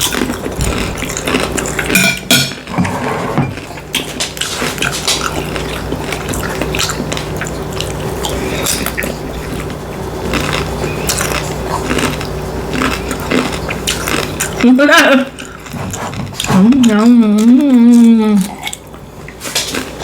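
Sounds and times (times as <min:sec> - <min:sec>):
chewing and mouth smacks: 0:00.0 - 0:02.0, 0:03.6 - 0:14.7, 0:15.3 - 0:20.0.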